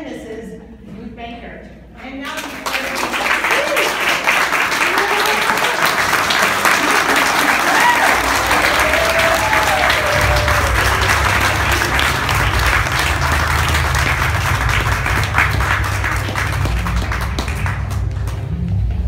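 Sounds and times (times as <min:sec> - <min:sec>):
crowd applauding: 0:02.4 - 0:19.0.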